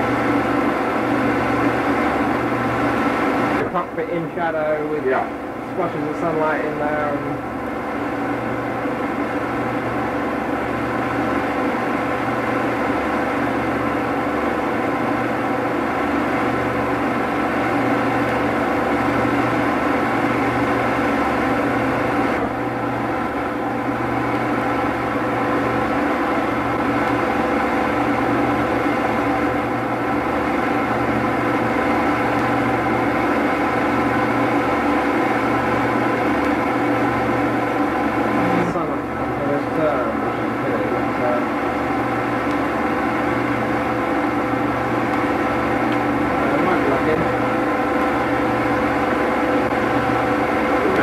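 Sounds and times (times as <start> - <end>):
mechanical hum and whir: 0.0 - 51.0.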